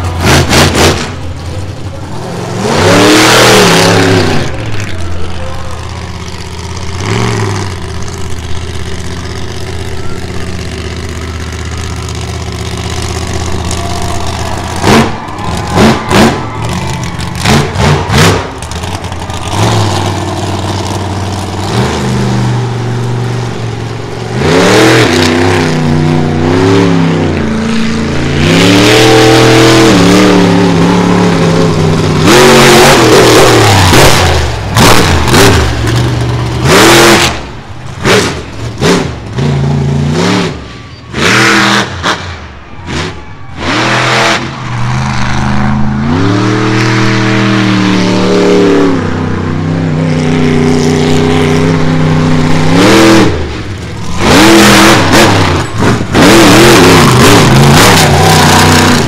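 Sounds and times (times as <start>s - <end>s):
truck engine idling and revving: 0.0s - 59.0s.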